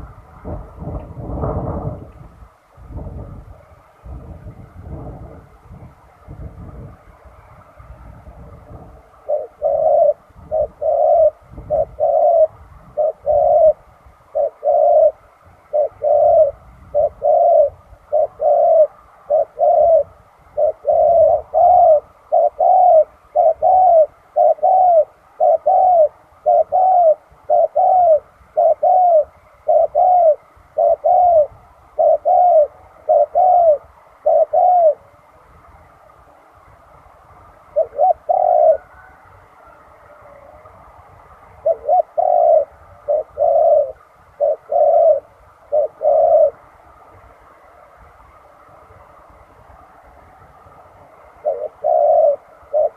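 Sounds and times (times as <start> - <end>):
dove cooing: 0.0 - 2.3, 3.0 - 35.9, 37.3 - 47.7, 51.0 - 52.9.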